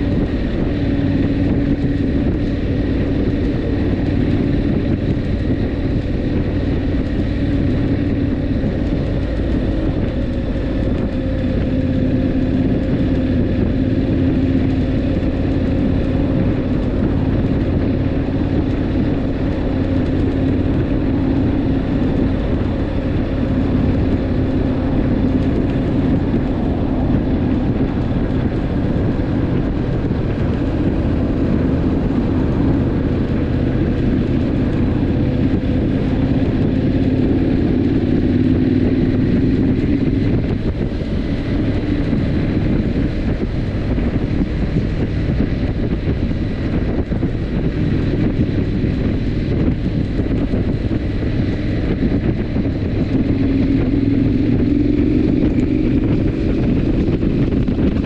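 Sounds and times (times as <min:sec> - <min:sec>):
motorcycle engine running: 0:00.0 - 0:58.0
tyre and road noise: 0:00.0 - 0:58.0
wind rushing over microphone: 0:00.0 - 0:58.0.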